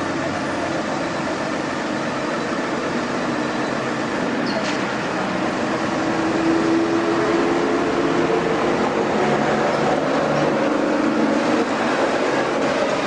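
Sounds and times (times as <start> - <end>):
construction machinery rumbling: 0.0 - 13.0.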